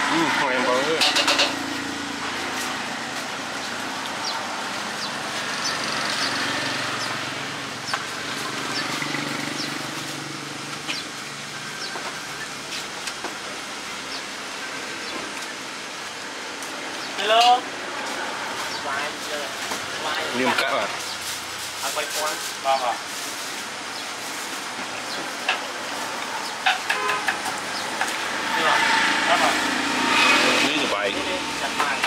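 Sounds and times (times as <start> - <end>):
traffic hum: 0.0 - 32.0.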